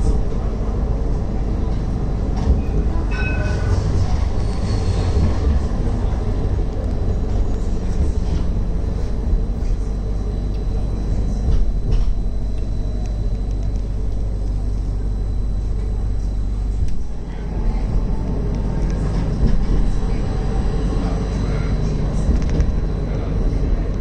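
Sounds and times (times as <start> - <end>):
tram running gear rumble: 0.0 - 24.0.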